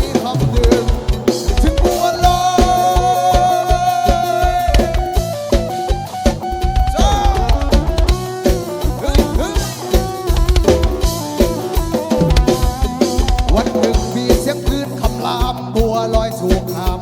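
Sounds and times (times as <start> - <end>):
bending lead melody: 0.0 - 17.0
drum kit beat: 0.0 - 17.0.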